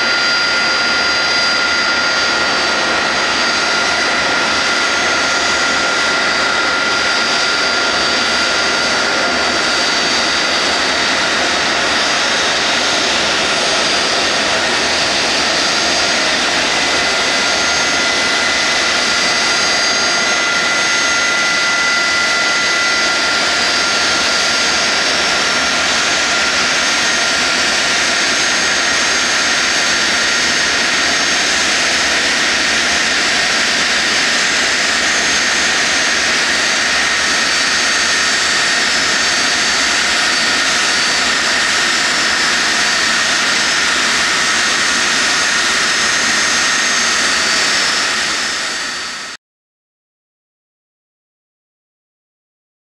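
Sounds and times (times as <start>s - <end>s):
high whining tones: 0.0s - 49.2s
jet engines running: 0.0s - 49.4s.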